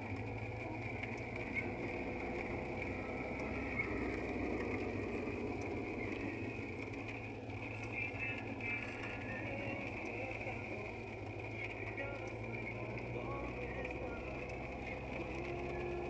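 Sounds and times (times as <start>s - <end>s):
car driving on wet road: 0.0s - 16.0s
light ticks: 0.0s - 16.0s.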